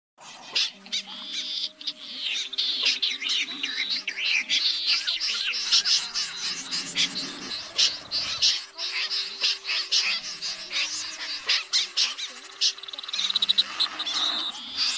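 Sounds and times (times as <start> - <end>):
faint music notes: 0.2 - 14.9
snipe chirping chatter: 0.2 - 14.9.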